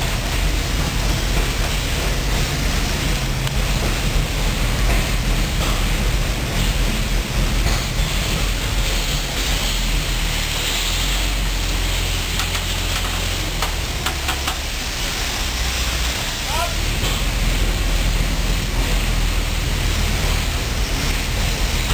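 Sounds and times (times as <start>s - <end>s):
tank engine rumbling: 0.0s - 21.9s.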